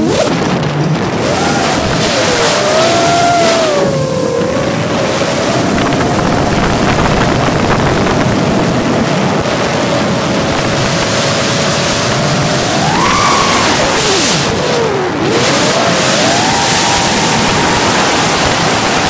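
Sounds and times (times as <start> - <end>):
drone motors whining: 0.0 - 19.0
wind rush on microphone: 0.0 - 19.0.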